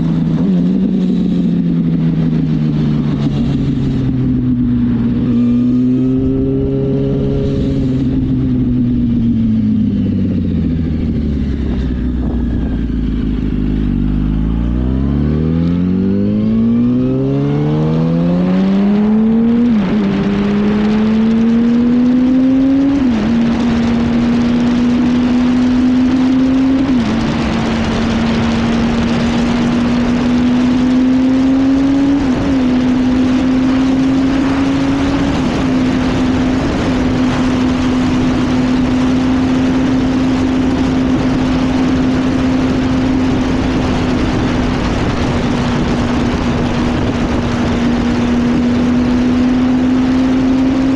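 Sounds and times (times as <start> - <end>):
motorcycle engine revving: 0.0 - 50.9
wind rush: 0.0 - 50.9.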